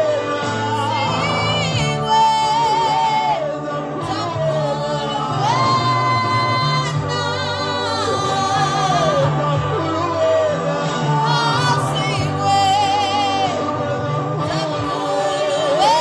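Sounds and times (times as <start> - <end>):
low musical accompaniment: 0.0 - 16.0
person singing long sliding notes: 0.0 - 16.0.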